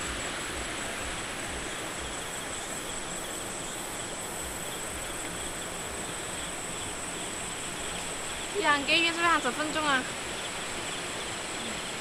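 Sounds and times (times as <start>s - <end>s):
insect buzzing: 0.0s - 12.0s
stream rushing: 0.0s - 12.0s.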